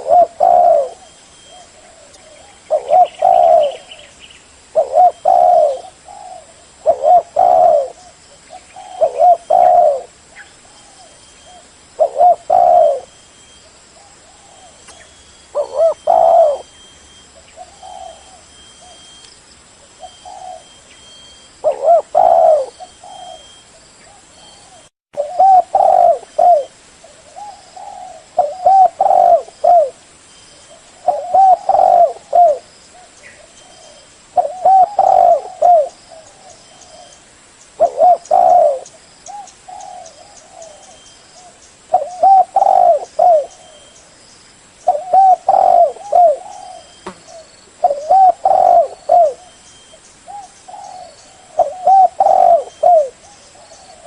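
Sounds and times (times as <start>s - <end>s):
dove cooing: 0.0s - 4.1s, 4.7s - 13.2s, 14.0s - 19.2s, 19.8s - 30.0s, 30.7s - 37.2s, 37.8s - 44.1s, 44.9s - 54.0s.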